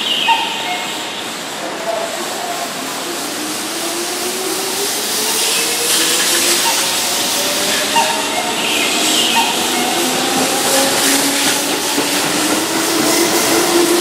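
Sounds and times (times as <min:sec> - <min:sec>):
train cars rolling: 0:00.0 - 0:14.0.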